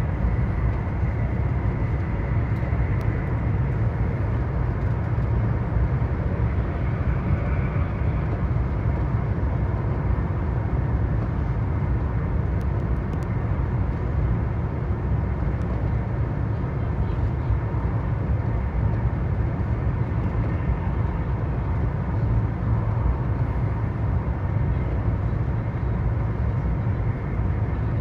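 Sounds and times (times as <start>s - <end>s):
vehicle rumbling in motion: 0.0s - 28.0s.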